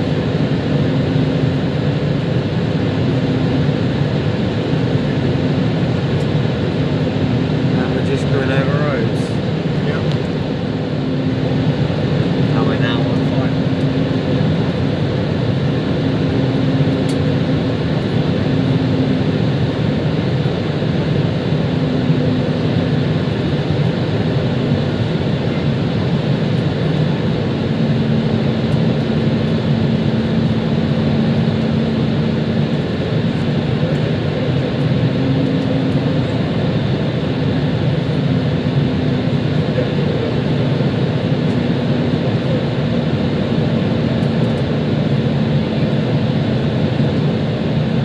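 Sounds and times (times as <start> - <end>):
airplane cabin engine rush: 0.0 - 48.0.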